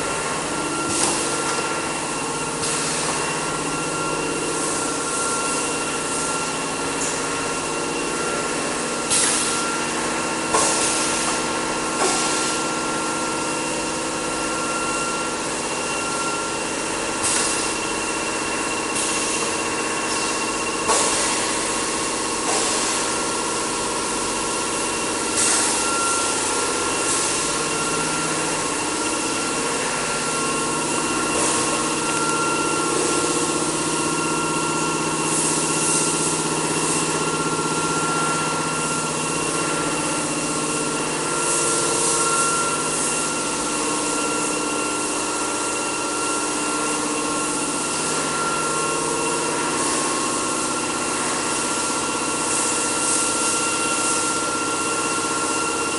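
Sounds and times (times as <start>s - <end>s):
machinery whining tones: 0.0s - 55.9s.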